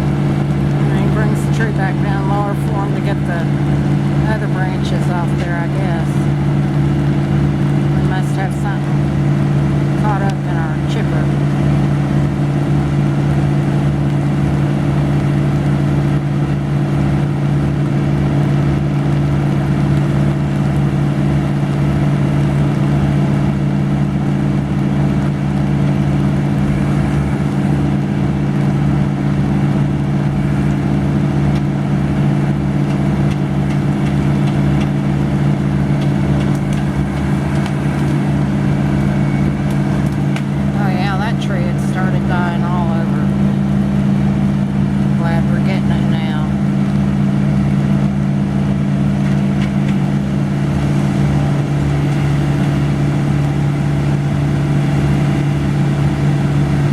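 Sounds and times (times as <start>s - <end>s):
heavy equipment engine running: 0.0s - 56.9s.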